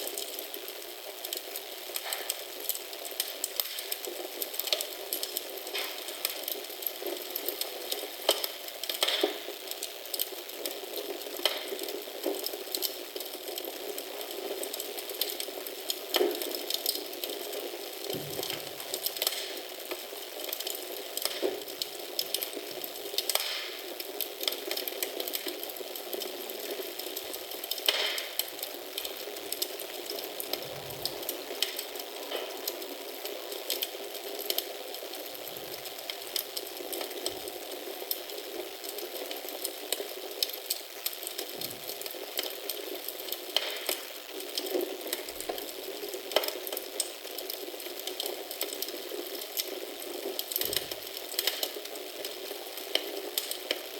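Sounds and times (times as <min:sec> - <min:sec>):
wood fire crackling: 0:00.0 - 0:53.9
fire pops: 0:00.1 - 0:34.7, 0:35.5 - 0:53.8.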